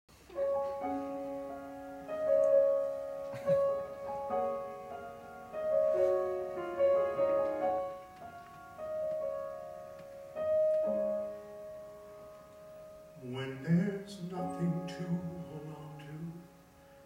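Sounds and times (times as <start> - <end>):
solo piano: 0.1 - 17.0.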